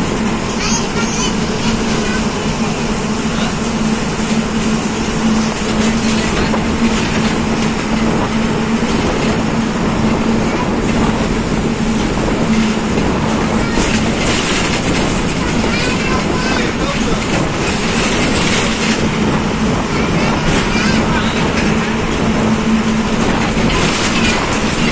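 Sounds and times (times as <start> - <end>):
vehicle interior road rush: 0.0 - 24.9.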